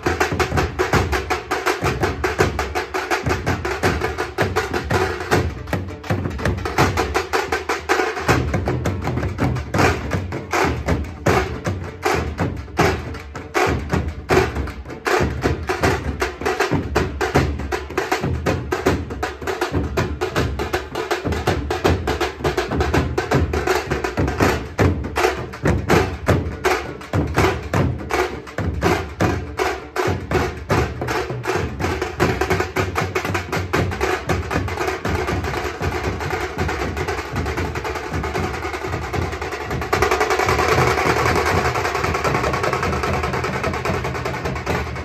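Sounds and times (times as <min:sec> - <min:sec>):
deep drum beats: 0:00.0 - 0:45.0
drums in fast driving rhythm: 0:00.0 - 0:45.0.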